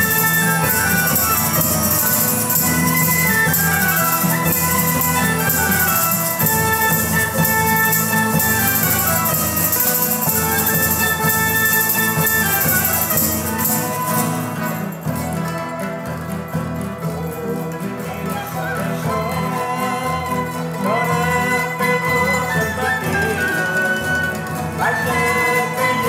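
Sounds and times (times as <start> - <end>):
accordion: 0.0 - 26.0
acoustic guitars and plucked strings: 0.0 - 26.0
jingling percussion: 0.0 - 26.0.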